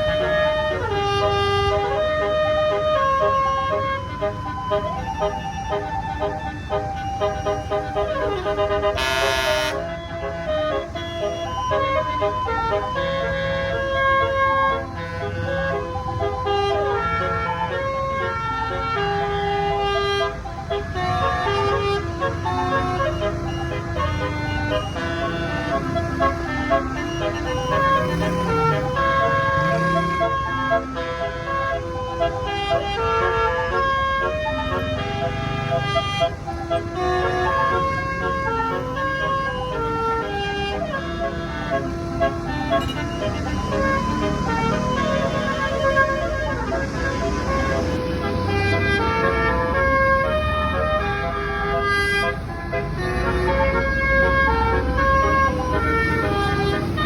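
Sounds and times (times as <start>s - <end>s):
musical bus horn melody: 0.0s - 57.0s.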